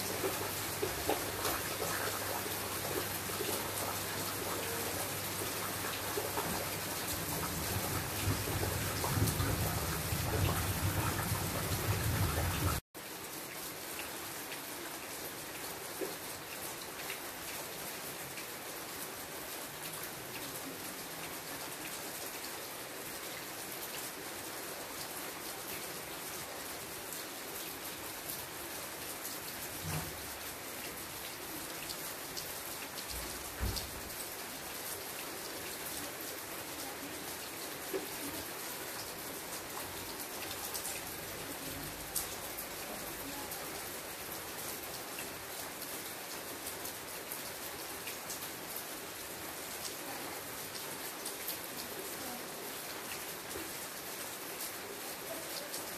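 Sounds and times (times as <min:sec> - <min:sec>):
steady rain hissing: 0:00.0 - 0:55.9.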